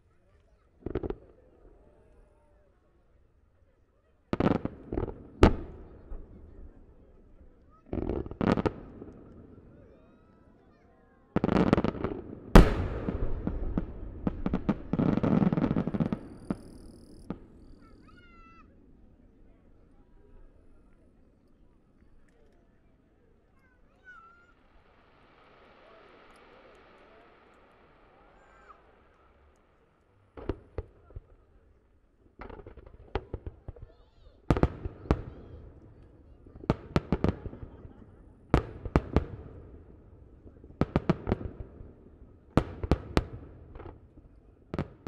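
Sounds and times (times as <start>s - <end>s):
fireworks crackling and popping: 0.0s - 2.4s, 4.0s - 45.0s.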